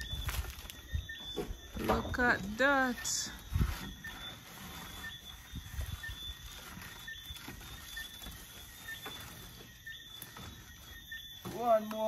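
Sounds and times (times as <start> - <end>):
high chirping of night insects: 0.0 - 12.0.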